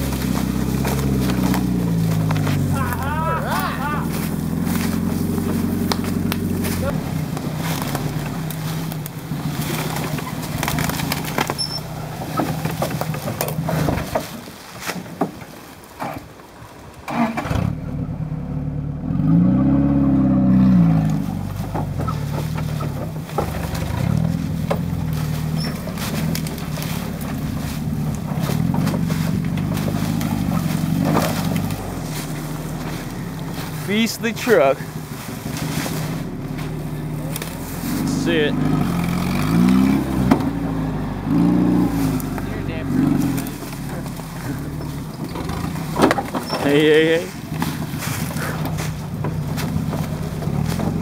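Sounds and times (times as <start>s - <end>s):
truck engine revving: 0.0s - 14.5s, 17.1s - 51.0s
branches scraping truck: 0.0s - 51.0s.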